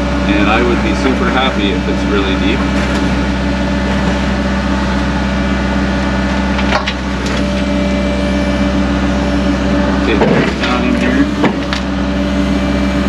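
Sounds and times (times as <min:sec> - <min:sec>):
mini excavator running: 0:00.0 - 0:13.0.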